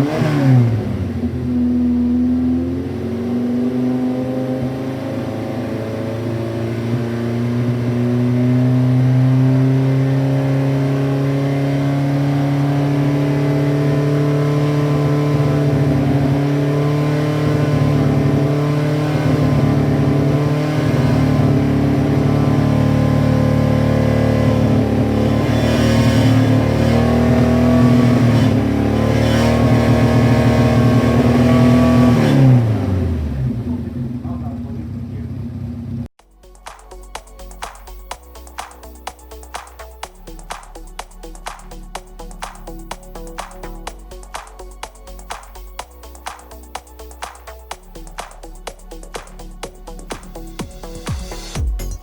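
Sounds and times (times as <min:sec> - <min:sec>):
car engine revving: 0:00.0 - 0:36.1, 0:37.2 - 0:52.0.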